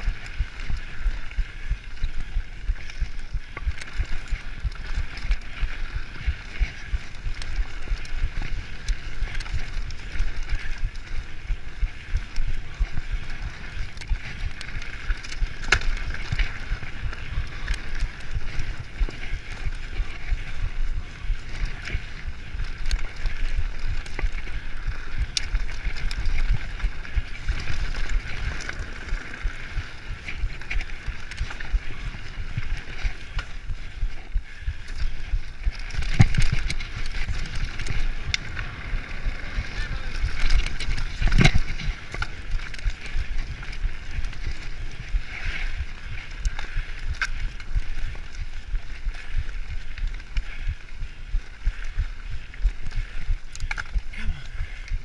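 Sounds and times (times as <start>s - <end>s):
bike rattling: 0.0s - 55.0s
bike tyres rolling over dirt: 0.0s - 55.0s
wind buffeting microphone: 0.0s - 55.0s.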